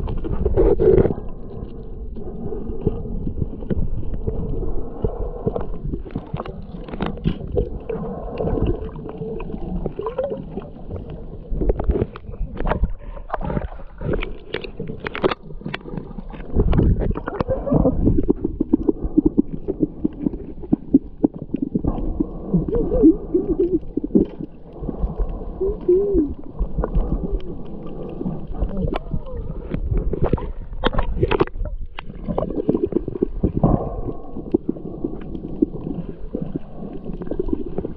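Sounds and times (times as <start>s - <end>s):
muffled water gurgling and sloshing: 0.0s - 37.9s.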